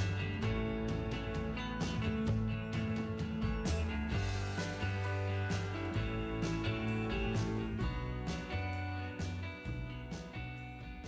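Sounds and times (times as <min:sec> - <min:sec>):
upbeat country music: 0:00.0 - 0:11.0.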